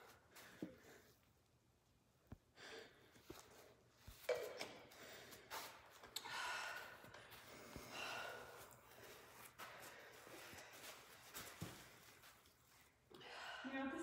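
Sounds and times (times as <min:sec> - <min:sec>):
woman breathing heavily: 0:00.0 - 0:01.3, 0:02.5 - 0:04.0, 0:04.8 - 0:14.0.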